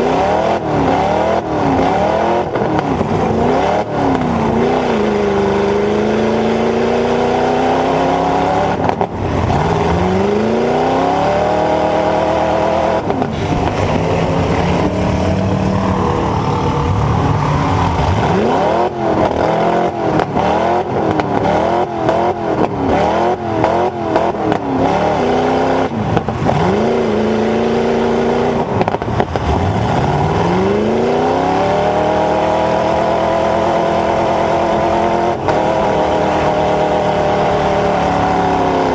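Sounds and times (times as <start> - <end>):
pickup engine revving: 0.0 - 38.9.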